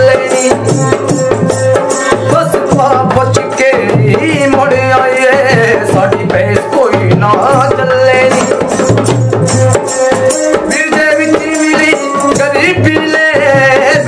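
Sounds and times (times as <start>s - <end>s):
man singing: 0.0s - 14.0s
steady drumbeat: 0.0s - 14.0s.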